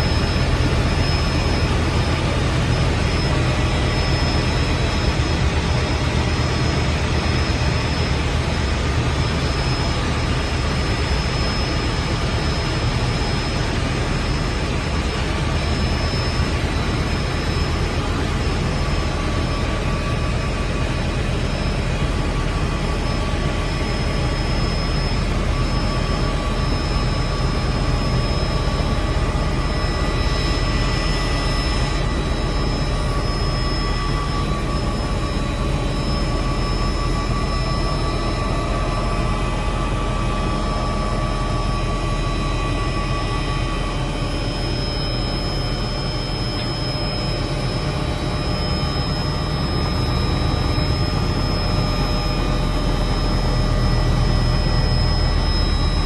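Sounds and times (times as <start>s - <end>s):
helicopter turbine whine: 0.0s - 56.0s
low rotor drone: 0.0s - 56.0s.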